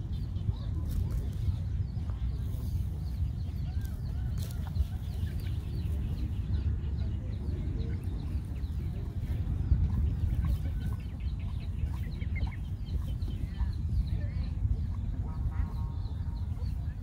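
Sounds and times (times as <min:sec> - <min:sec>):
chickens clucking: 0:00.0 - 0:17.0
steady low rumble: 0:00.0 - 0:17.0.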